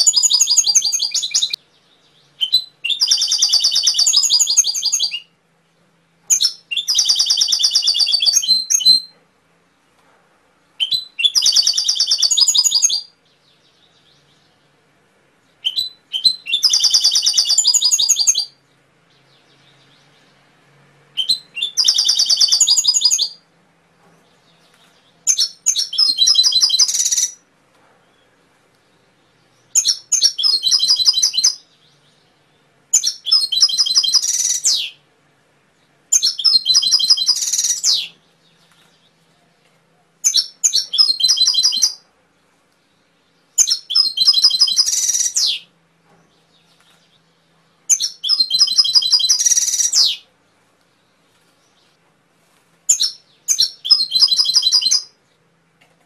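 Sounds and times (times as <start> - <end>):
canary trilling song: 0.0 - 9.2, 10.7 - 14.8, 15.4 - 35.1, 35.7 - 39.2, 40.2 - 42.1, 43.0 - 50.3, 52.9 - 55.3.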